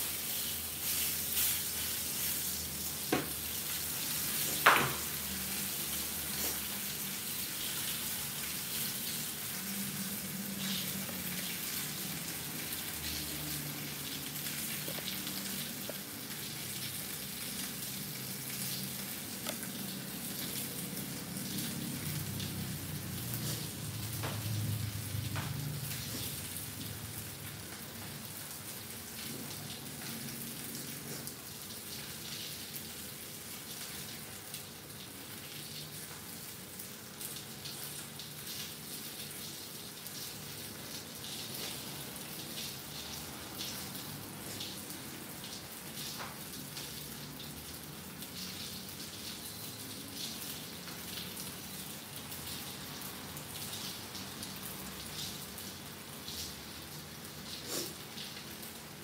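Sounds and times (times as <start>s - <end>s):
fish frying with crackling spatters: 0.0s - 59.0s.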